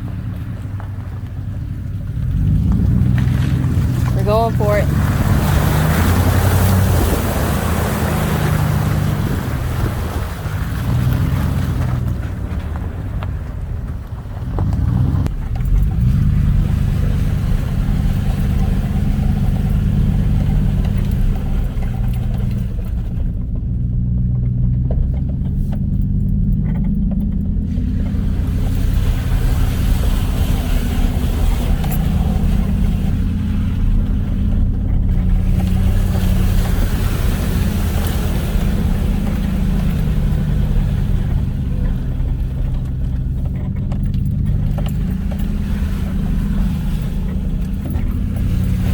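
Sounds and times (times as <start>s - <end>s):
off-road vehicle engine: 0.0s - 48.9s.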